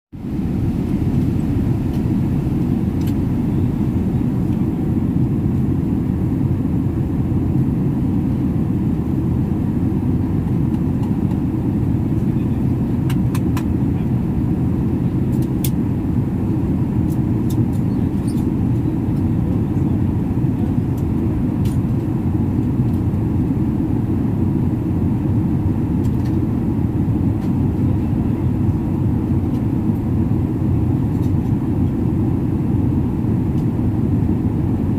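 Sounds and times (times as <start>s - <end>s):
airliner cabin rumble: 0.1s - 34.9s.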